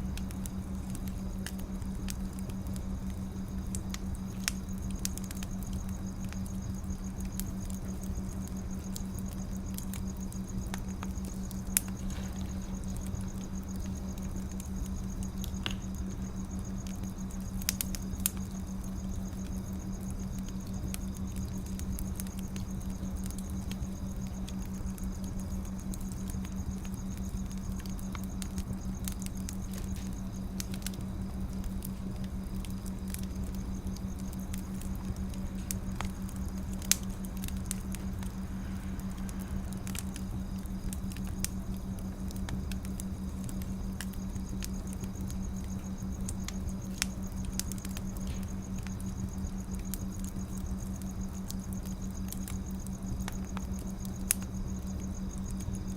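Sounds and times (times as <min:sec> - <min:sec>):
firewood crackling and popping: 0:00.0 - 0:55.9
steady low hum: 0:00.0 - 0:55.9.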